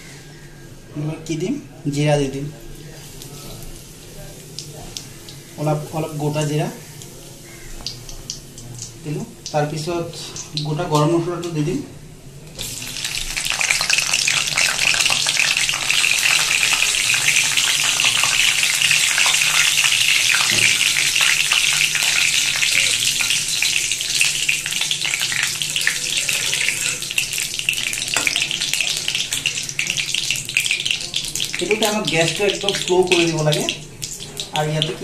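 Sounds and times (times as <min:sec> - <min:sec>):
spices sizzling in hot oil: 0:02.4 - 0:11.8, 0:12.5 - 0:35.0.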